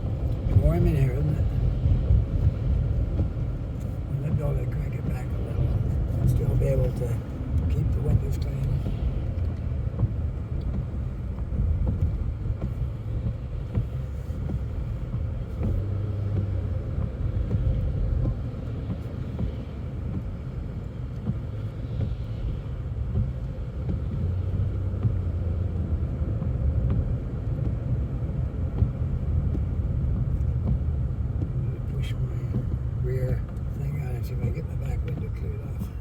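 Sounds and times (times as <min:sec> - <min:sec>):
car tyres and engine rumble: 0:00.0 - 0:36.0.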